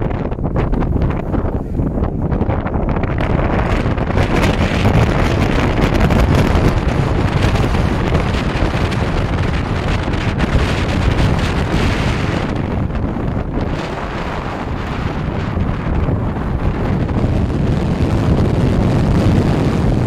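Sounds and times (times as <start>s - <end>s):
car road noise: 0.0s - 20.0s
wind roaring over microphone: 0.0s - 20.0s.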